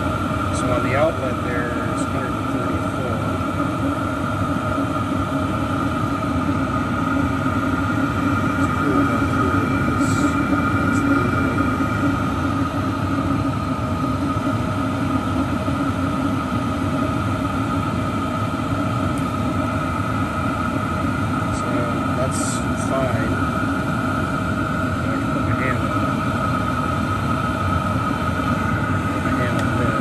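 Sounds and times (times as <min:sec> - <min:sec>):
air heater fan whirring: 0:00.0 - 0:30.0.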